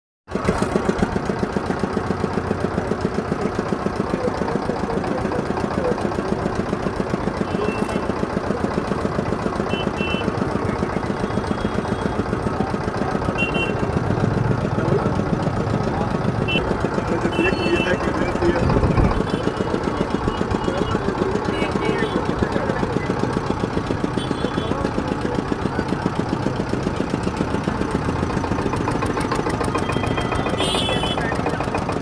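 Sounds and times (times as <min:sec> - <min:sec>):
engine idling: 0:00.3 - 0:32.0.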